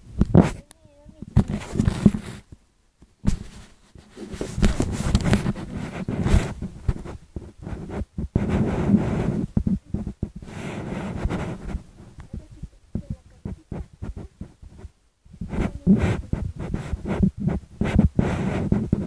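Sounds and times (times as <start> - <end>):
phone microphone rustling: 0.0 - 19.0.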